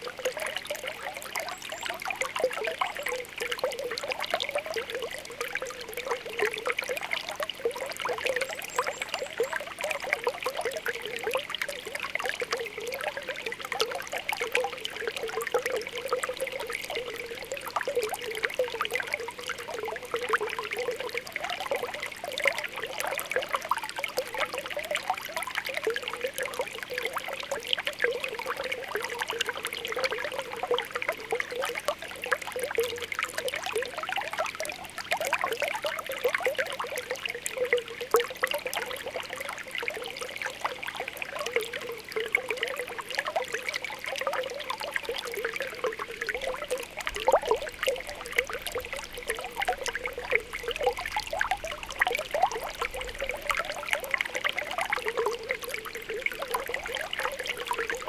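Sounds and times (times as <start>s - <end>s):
spring water bubbling: 0.0s - 58.0s.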